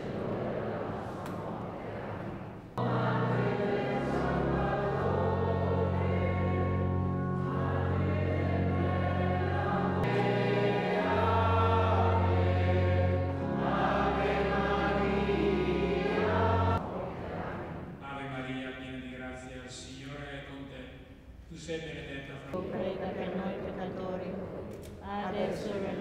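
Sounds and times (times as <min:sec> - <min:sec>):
choir singing sacred music: 0:00.0 - 0:19.3, 0:22.5 - 0:26.0.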